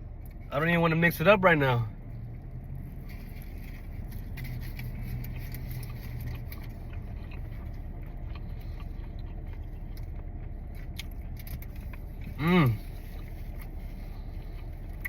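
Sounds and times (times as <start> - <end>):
steady low hum: 0.0 - 15.0
person chewing food: 2.2 - 15.0.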